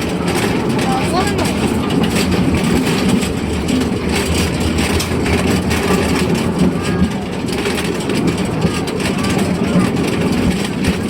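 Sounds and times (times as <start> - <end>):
train rumble and rail clatter: 0.0 - 11.0.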